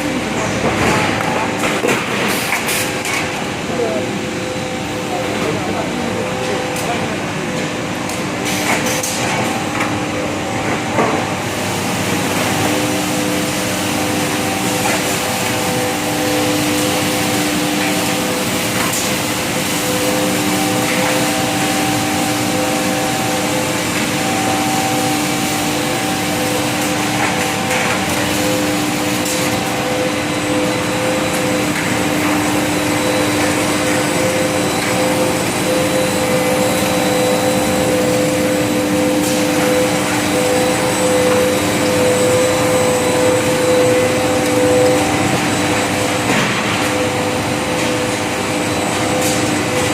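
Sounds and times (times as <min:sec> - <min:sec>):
extrusion machine humming: 0:00.0 - 0:49.9.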